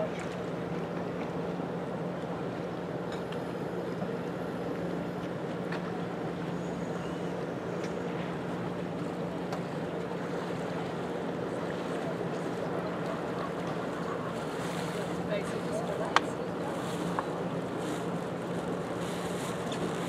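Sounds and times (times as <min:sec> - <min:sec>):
water on open water: 0:00.0 - 0:20.0
wind: 0:00.0 - 0:20.0.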